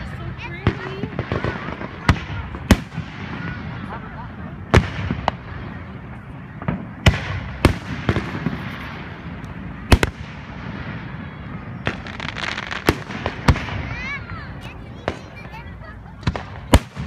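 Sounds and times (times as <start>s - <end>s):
firework booms: 0.0s - 17.0s
fireworks crackling: 0.0s - 17.0s.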